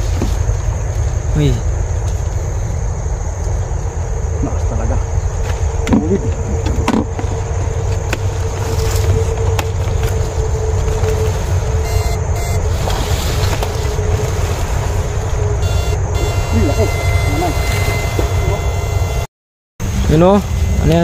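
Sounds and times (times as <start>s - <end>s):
low rumble: 0.0s - 21.0s
thin steady hum: 0.3s - 21.0s.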